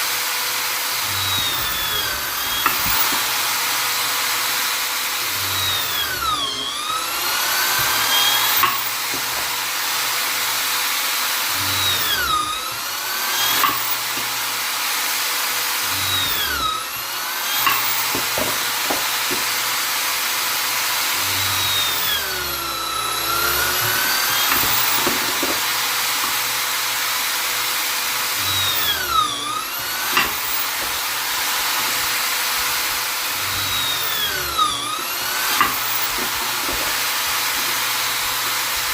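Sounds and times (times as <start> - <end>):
drill motor whine: 0.0 - 38.9.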